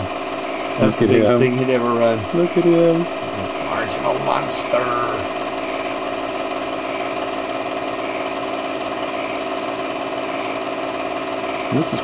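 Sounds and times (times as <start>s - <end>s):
film projector whirring: 0.0s - 12.0s.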